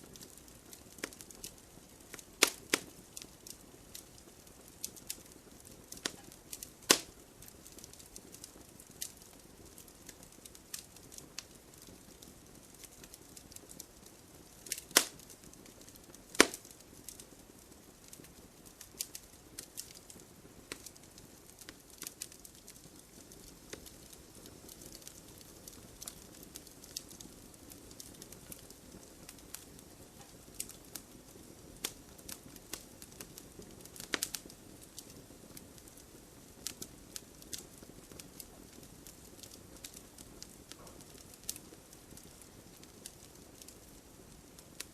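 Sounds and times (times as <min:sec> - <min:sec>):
fire hiss: 0:00.0 - 0:44.9
wood fire crackling: 0:00.0 - 0:44.9.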